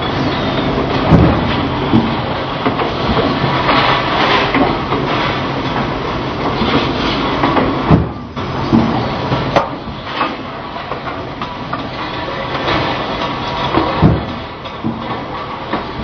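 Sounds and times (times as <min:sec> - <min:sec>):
machinery clattering: 0:00.0 - 0:16.0.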